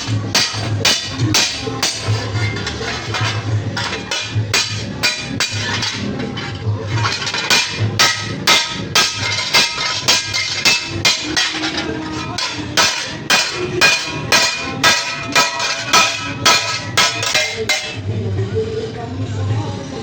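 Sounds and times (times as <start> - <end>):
hammer striking steel on anvil: 0.0 - 18.0.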